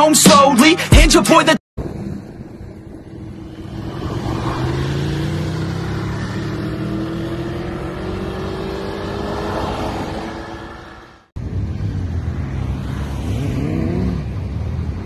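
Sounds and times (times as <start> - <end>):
motorcycle engine accelerating: 1.9 - 10.8, 11.4 - 15.0.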